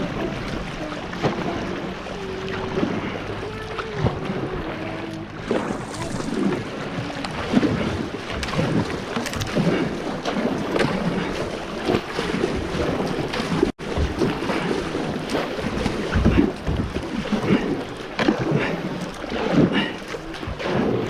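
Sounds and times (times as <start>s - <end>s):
water splashing around kayak: 0.0s - 21.0s
wind buffeting microphone: 0.0s - 21.0s.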